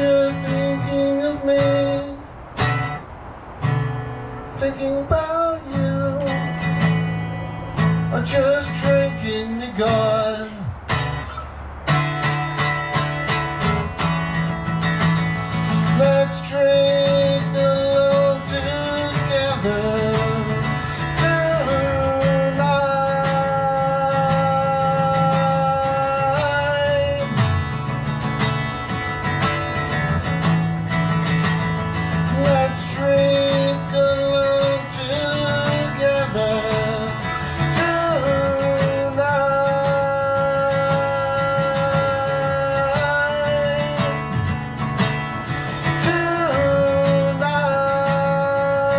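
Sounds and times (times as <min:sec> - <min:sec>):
guitar strumming chords: 0:00.0 - 0:48.9.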